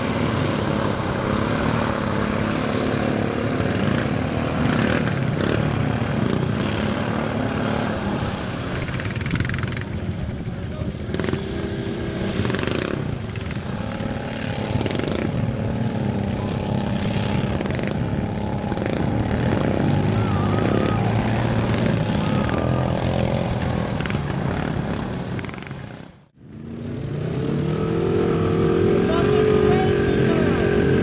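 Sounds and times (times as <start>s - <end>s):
atv engines droning: 0.0s - 31.0s.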